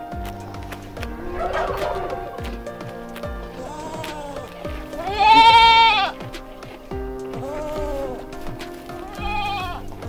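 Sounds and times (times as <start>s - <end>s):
background music with a beat: 0.0s - 10.0s.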